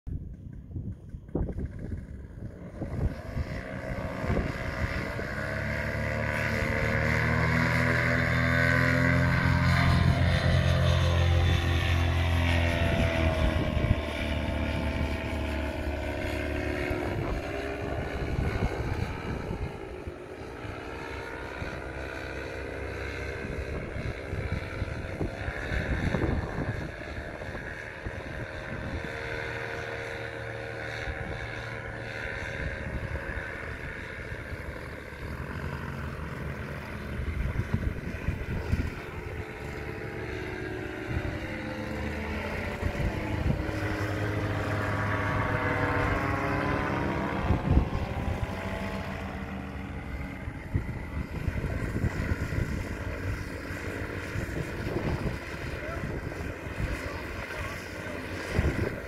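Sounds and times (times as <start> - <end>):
paramotor engine droning: 0.1 - 59.0
wind buffeting microphone: 0.1 - 59.0.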